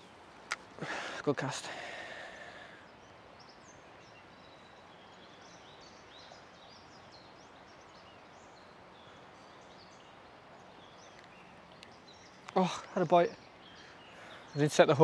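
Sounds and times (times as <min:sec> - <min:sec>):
river flowing: 0:00.0 - 0:15.0
songbirds chirping: 0:00.0 - 0:15.0.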